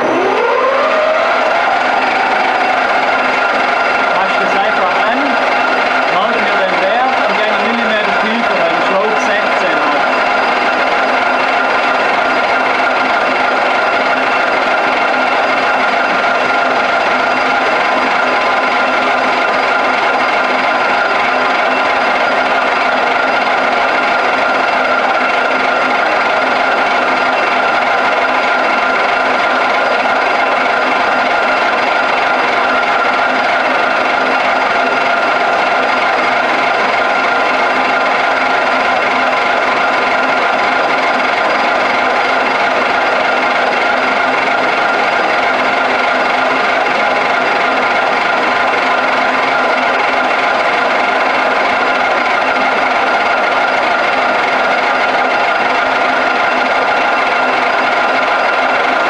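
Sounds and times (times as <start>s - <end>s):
metal lathe whine: 0.0s - 59.0s.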